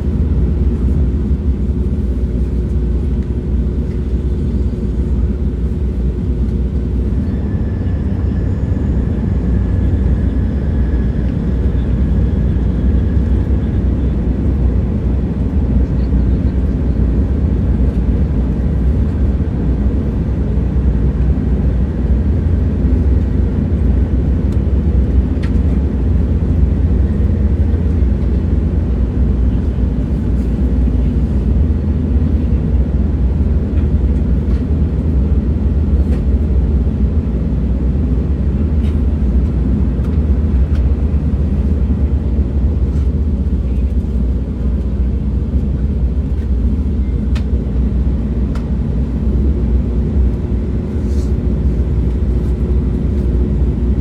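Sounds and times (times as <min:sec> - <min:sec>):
moving train rumble: 0:00.0 - 0:54.0.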